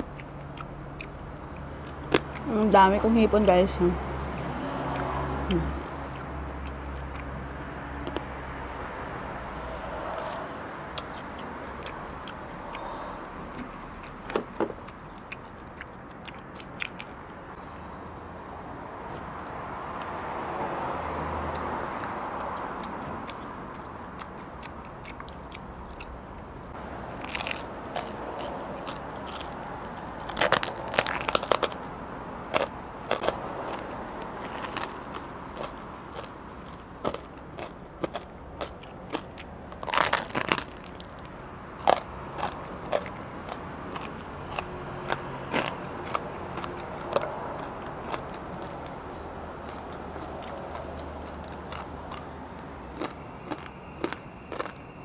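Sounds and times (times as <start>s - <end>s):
crunchy chewing: 0.0s - 2.5s, 4.1s - 8.6s, 9.7s - 17.6s, 19.0s - 55.0s.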